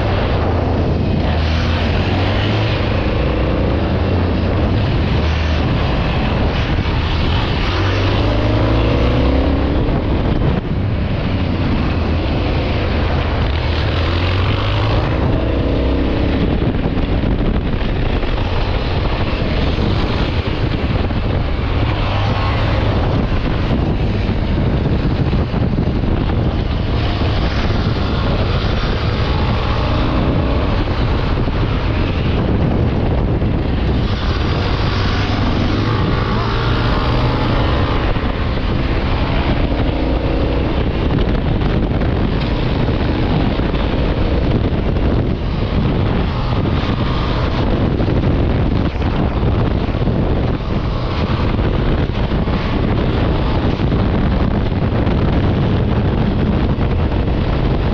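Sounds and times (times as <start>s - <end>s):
motorcycle engine: 0.0s - 57.9s
road noise: 0.0s - 57.9s
wind rushing over microphone: 0.0s - 57.9s.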